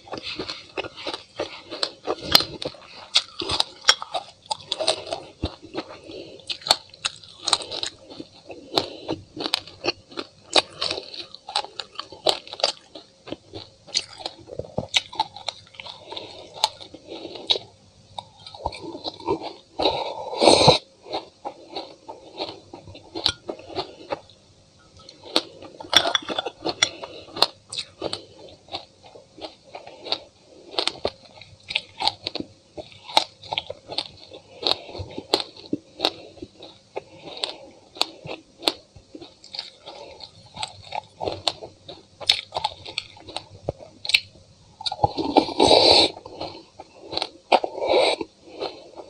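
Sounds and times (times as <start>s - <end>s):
chewing and crunching seeds: 0.0s - 49.0s.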